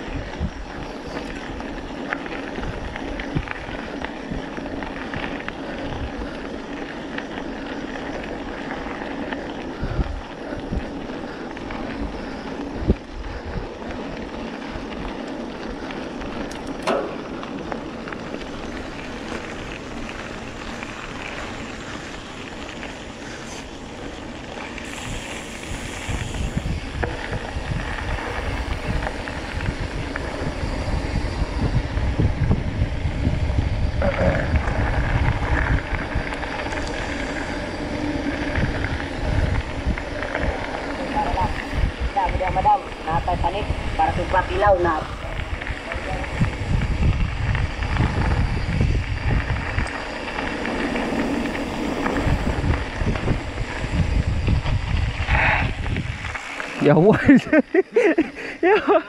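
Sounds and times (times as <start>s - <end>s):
tyres crunching on gravel: 0.0s - 31.0s, 33.8s - 58.2s
bike rattling: 0.0s - 59.0s
wind buffeting microphone: 0.0s - 59.0s.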